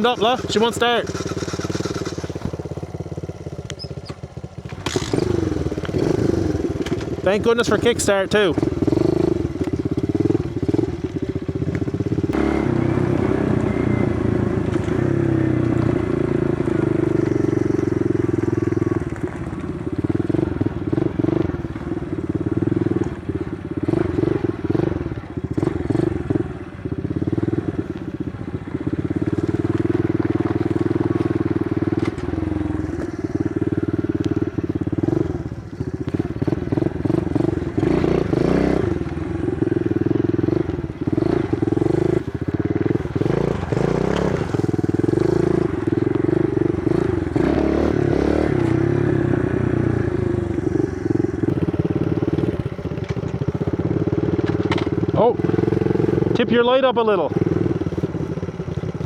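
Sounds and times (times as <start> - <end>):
small motorbike engine running: 0.0 - 59.0.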